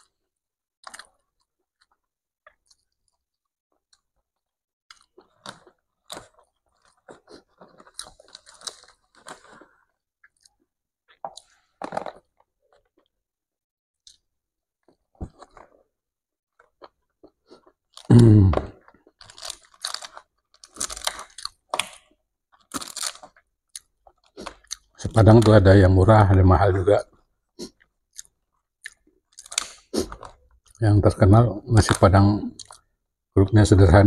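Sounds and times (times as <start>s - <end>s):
person chewing: 0.8s - 13.1s, 14.0s - 15.9s, 16.5s - 25.5s, 27.1s - 30.8s, 31.9s - 33.0s.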